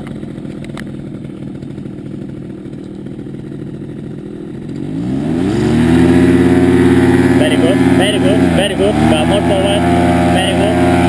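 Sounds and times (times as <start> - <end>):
paramotor engine idling and revving: 0.0 - 11.0.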